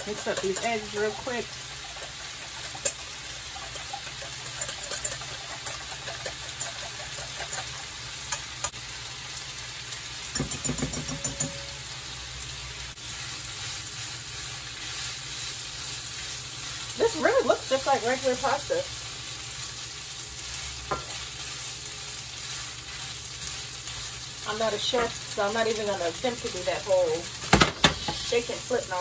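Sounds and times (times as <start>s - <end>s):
noodles sizzling in frying pan: 0.0s - 29.0s.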